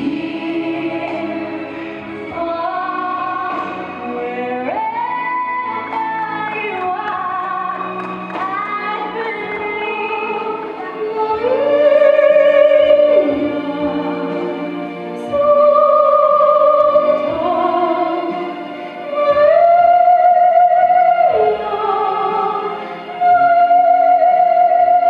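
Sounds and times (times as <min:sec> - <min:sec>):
soft instrumental backing: 0:00.0 - 0:25.0.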